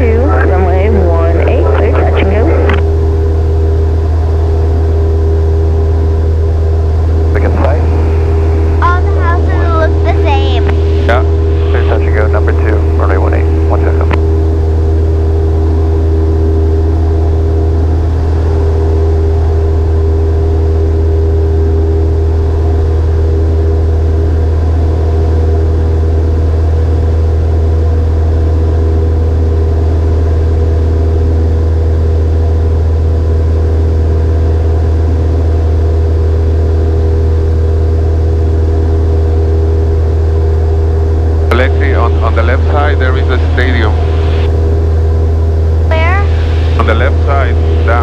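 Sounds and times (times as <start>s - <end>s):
propeller aircraft engine droning: 0.0s - 48.0s.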